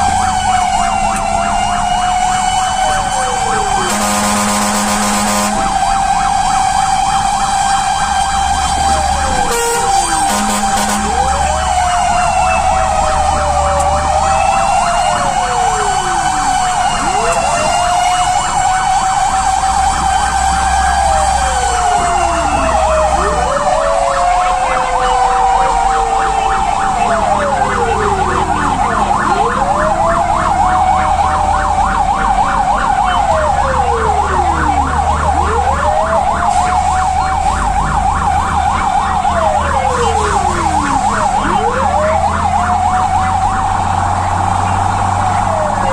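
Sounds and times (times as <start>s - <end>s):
fire truck sirens: 0.0s - 45.9s
truck engines rumbling: 0.0s - 45.9s.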